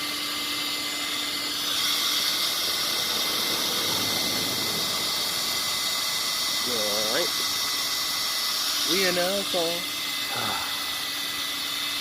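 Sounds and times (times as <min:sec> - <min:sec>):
electric drill boring plastic: 0:00.0 - 0:12.0.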